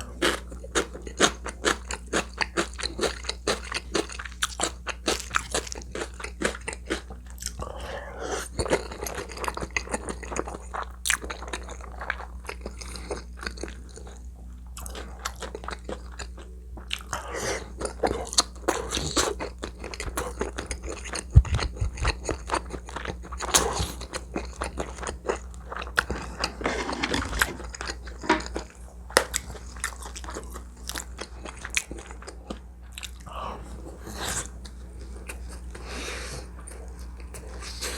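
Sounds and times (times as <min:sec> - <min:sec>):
faint low hum: 0:00.0 - 0:37.9
person chewing food: 0:00.0 - 0:37.9.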